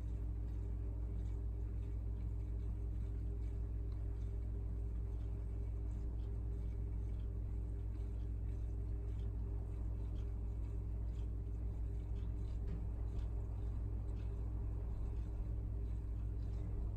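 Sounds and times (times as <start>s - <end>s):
aquarium pump humming: 0.0s - 16.9s
faint ticks: 0.0s - 16.9s.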